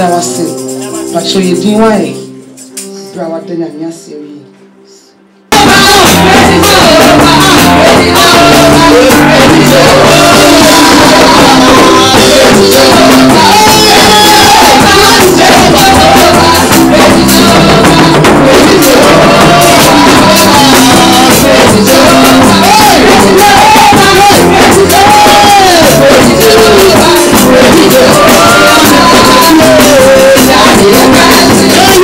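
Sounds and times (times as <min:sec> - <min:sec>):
worship music with singing: 0:00.0 - 0:32.0.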